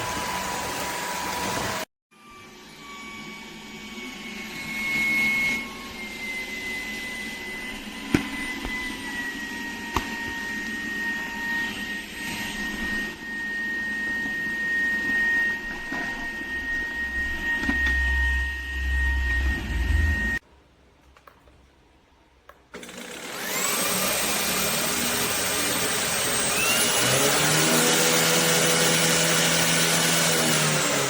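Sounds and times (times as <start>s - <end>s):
vacuum motor whine: 0.0s - 20.4s, 22.8s - 31.0s.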